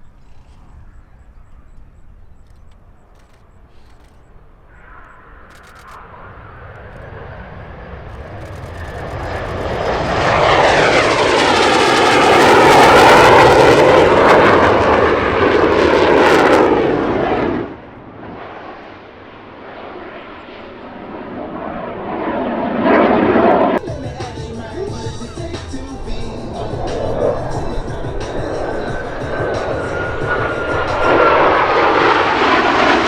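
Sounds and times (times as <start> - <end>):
plane flying past: 0.0 - 33.0.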